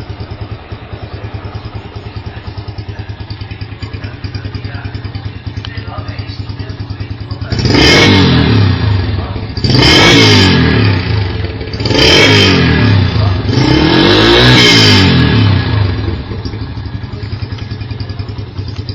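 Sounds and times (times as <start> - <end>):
motorcycle engine idling: 0.0 - 18.9
motorcycle engine revving: 0.0 - 18.9.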